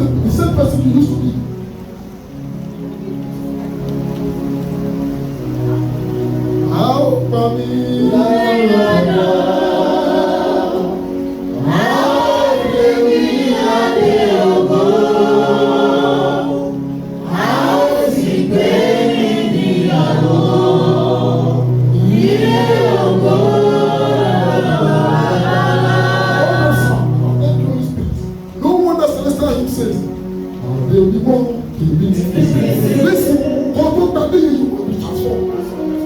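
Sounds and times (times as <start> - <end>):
choir singing a hymn: 5.0 - 28.2, 30.3 - 36.0.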